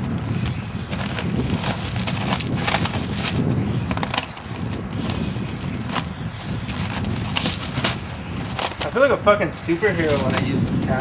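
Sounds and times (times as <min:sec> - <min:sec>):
spray paint can hissing: 0:00.0 - 0:11.0.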